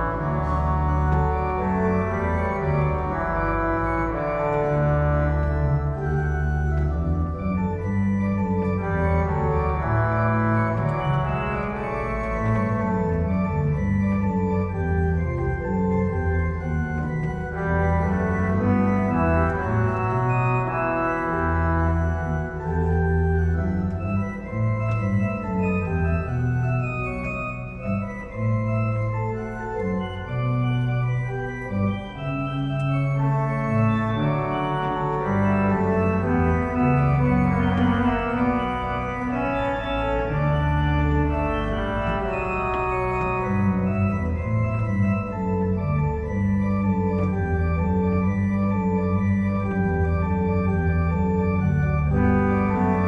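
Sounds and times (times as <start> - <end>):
church organ playing chords: 0.0 - 53.0.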